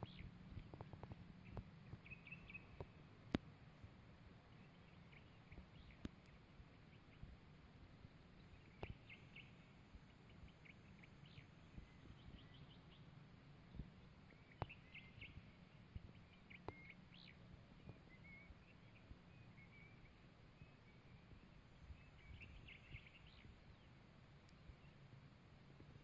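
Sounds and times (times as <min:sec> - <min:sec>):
low background rumble: 0:00.0 - 0:26.0
songbirds chirping: 0:00.0 - 0:26.0.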